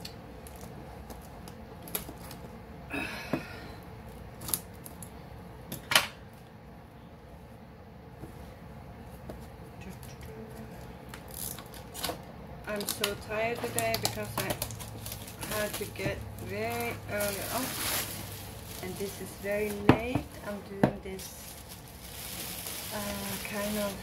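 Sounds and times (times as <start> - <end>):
faint room hum: 0.0 - 24.0.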